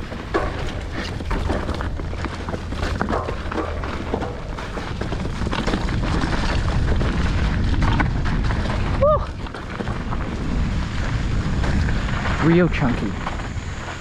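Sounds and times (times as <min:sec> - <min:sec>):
bike clicks and rattles: 0:00.0 - 0:14.0
tyres clattering over rocks: 0:00.0 - 0:14.0
wind buffeting microphone: 0:00.0 - 0:14.0.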